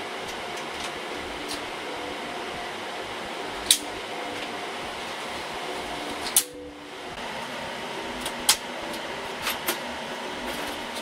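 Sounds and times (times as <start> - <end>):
server fans humming: 0.0 - 11.0.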